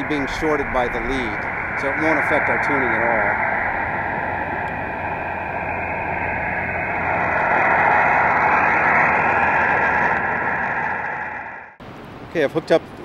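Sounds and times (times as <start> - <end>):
radio static hiss: 0.0 - 11.1.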